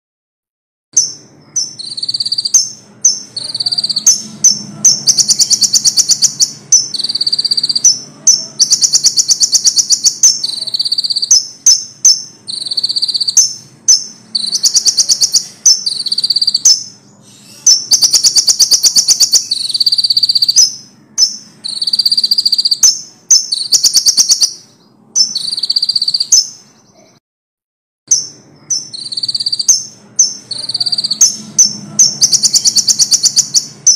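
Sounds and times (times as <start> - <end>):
songbird singing trills and whistles: 1.0 - 27.1, 28.1 - 33.9.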